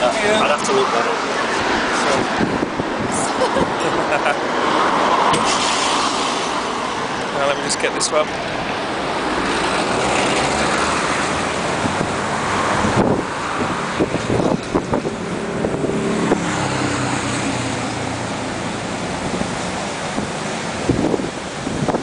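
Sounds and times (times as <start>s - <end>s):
wind on microphone: 1.3s - 7.3s, 8.3s - 22.0s.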